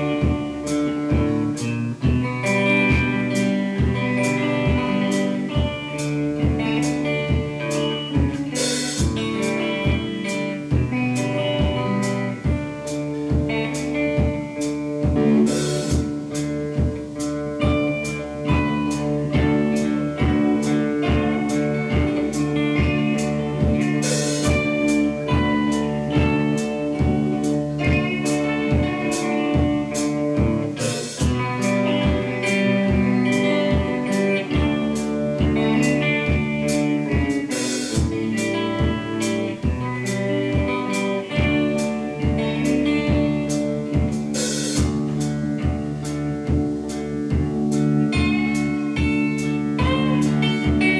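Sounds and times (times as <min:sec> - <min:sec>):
guitars with sliding notes: 0:00.0 - 0:50.9
steady drum beat: 0:00.0 - 0:50.9.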